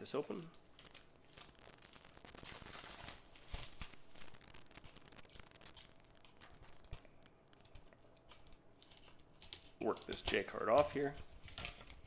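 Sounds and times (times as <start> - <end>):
plastic wrap tearing and crinkling: 0.0 - 12.0.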